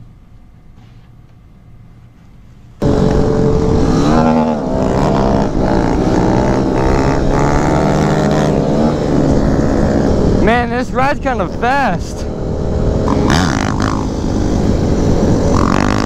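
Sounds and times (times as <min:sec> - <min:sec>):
motorcycle engine running: 0:02.8 - 0:16.0.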